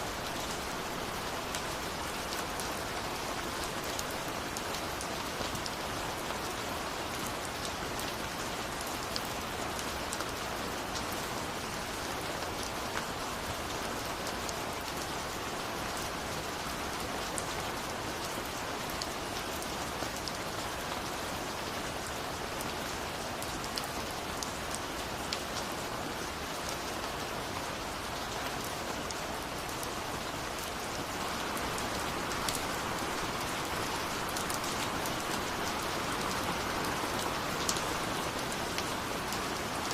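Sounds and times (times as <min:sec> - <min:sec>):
steady rain hissing: 0:00.0 - 0:39.9
raindrops pattering on a surface: 0:00.1 - 0:39.9.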